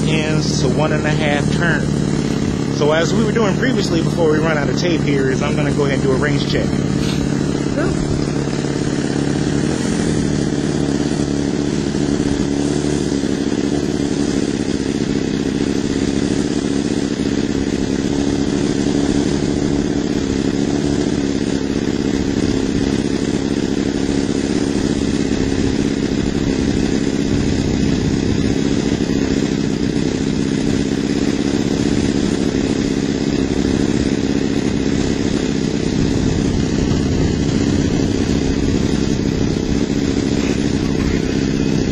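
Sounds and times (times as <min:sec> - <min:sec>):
model airplane engine running: 0:00.0 - 0:41.9.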